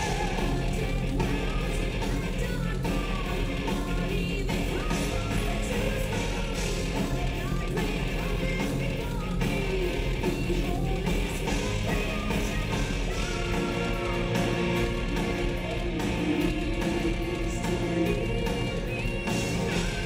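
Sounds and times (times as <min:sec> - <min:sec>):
woman singing: 0:00.0 - 0:14.5, 0:15.1 - 0:20.0
drums: 0:00.0 - 0:20.0
electric guitar: 0:00.0 - 0:20.0.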